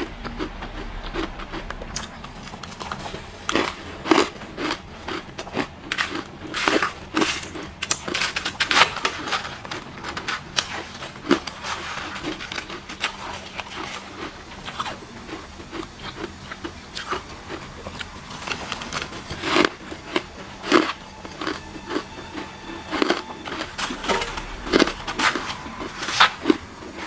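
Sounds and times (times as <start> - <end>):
ice crunching being chewed: 0.0 - 27.0.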